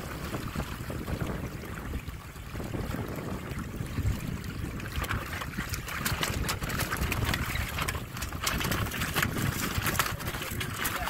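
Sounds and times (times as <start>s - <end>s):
water splashing along hull: 0.0s - 11.0s.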